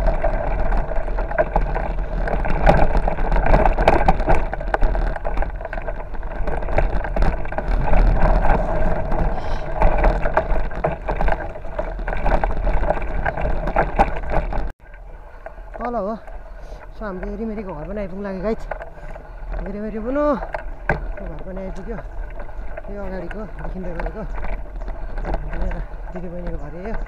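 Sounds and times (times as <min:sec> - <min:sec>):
bicycle tyres rumbling on gravel: 0:00.0 - 0:27.0
bike rattling and knocking: 0:00.0 - 0:27.0.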